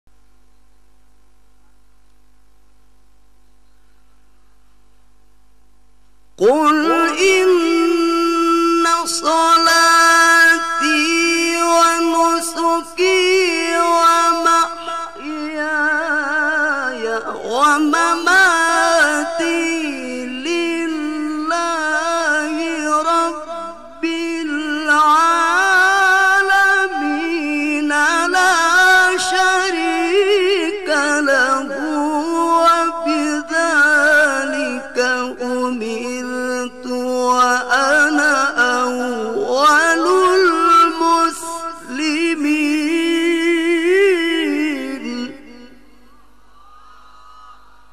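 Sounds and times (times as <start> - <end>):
man chanting into a microphone: 6.4 - 46.2
man reciting melodically: 6.4 - 46.2.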